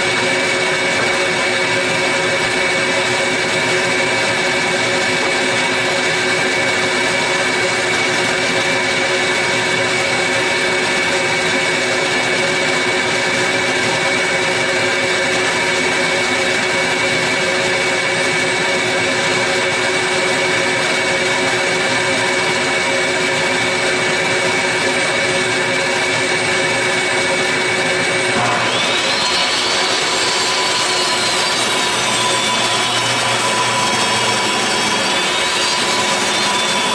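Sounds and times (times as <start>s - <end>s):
table saw ripping a board: 0.0s - 36.9s.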